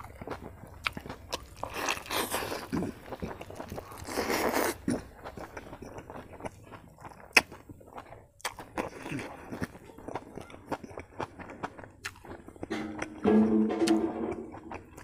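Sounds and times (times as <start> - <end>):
person chewing and crunching food: 0.0 - 13.2, 14.5 - 15.0.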